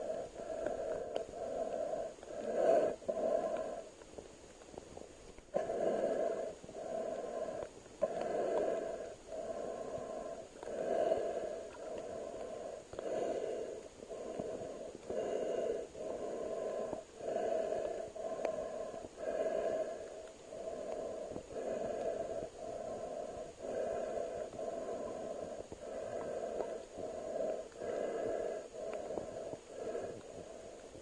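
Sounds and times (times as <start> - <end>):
breathing through a mouthpiece: 5.5 - 31.0.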